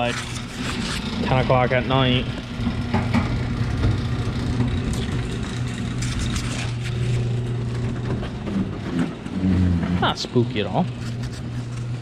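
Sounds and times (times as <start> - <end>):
garage door motor humming: 0.0 - 12.0.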